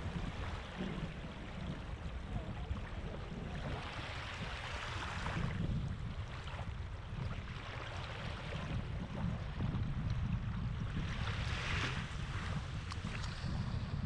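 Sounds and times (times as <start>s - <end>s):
low wind rumble on microphone: 0.0s - 14.0s
small waves washing on sand: 0.0s - 14.0s.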